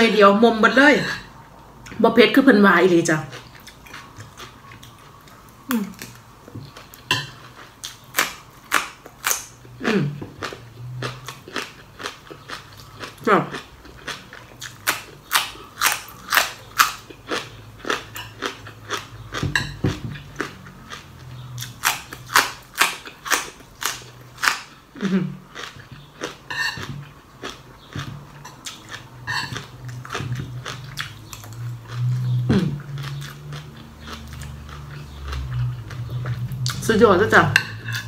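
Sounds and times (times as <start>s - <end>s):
crunching raw vegetables: 3.3s - 36.8s.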